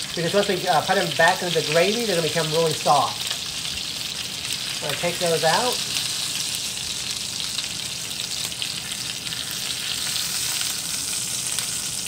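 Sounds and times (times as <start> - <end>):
butter sizzling in frying pan: 0.0 - 12.0.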